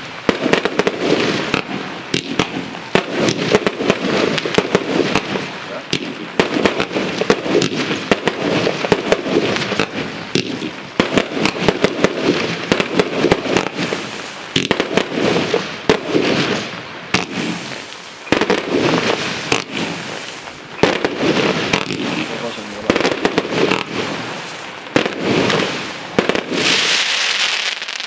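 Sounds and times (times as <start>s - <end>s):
fireworks firing and crackling: 0.0s - 28.0s.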